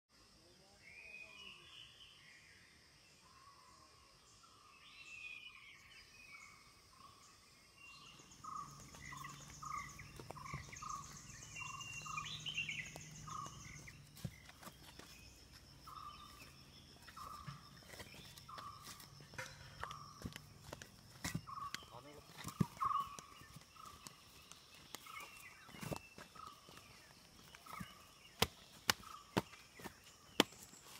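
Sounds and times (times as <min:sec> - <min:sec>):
higher bird chirps: 0:00.7 - 0:30.9.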